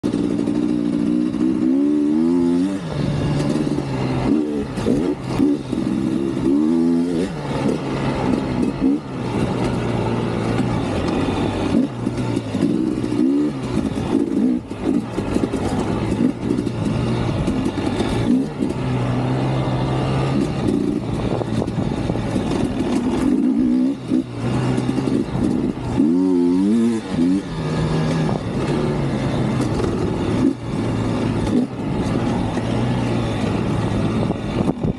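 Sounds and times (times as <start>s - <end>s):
dirt bike engine revving: 0.0s - 34.9s
wind and trail noise: 0.0s - 34.9s.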